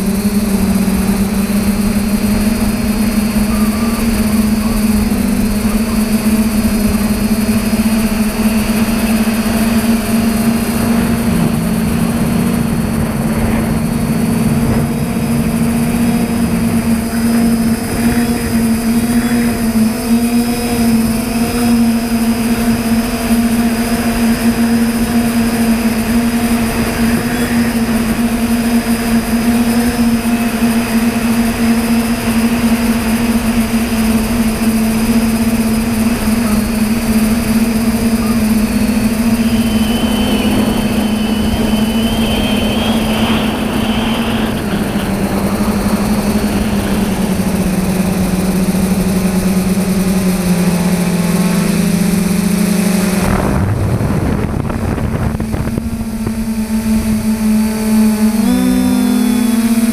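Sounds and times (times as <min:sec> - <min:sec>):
drone motors humming: 0:00.0 - 0:59.9
low wavering motor tone: 0:00.0 - 0:59.9.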